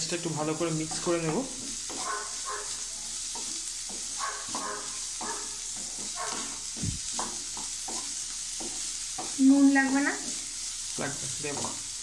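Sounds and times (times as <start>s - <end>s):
food sizzling in hot oil: 0.0s - 12.0s
wooden spatula scraping pan: 0.6s - 10.5s.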